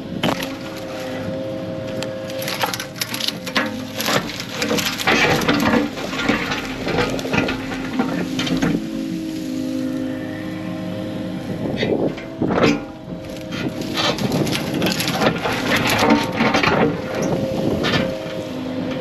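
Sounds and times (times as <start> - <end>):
branches cracking and snapping: 0.0 - 19.0
diesel machine engine running: 0.0 - 19.0.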